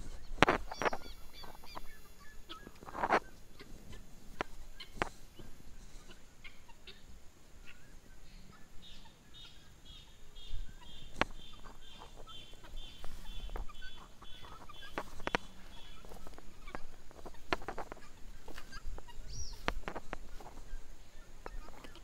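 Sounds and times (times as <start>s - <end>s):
guineafowl calling: 0.0s - 22.0s.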